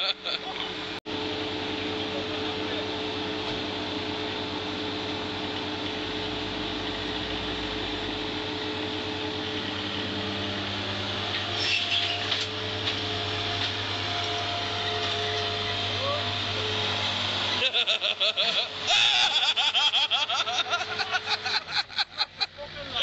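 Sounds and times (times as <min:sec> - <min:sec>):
vehicle engine humming: 0:00.1 - 0:23.0.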